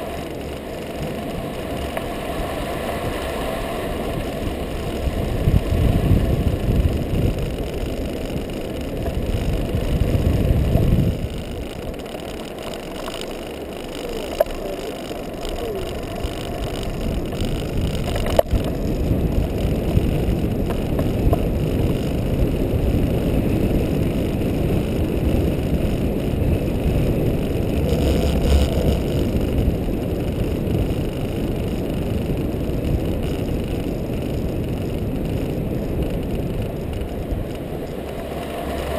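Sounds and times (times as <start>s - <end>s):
sharp clicks from buggy: 0.0s - 38.9s
wind buffeting microphone: 0.0s - 38.9s.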